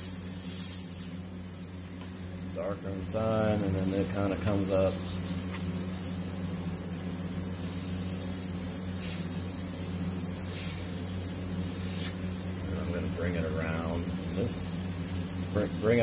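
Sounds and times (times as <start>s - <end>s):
airbrush hissing: 0.0s - 16.0s
constant low hum: 0.0s - 16.0s.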